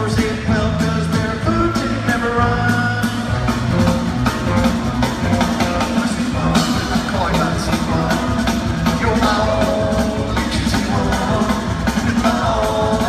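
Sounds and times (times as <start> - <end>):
rock band playing live: 0.0 - 13.0
sustained bass line: 0.0 - 13.0.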